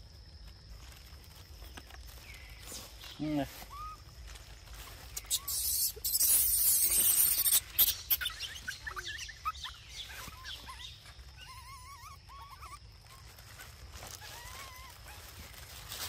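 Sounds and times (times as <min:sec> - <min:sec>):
small animals chirping: 0:02.2 - 0:15.8.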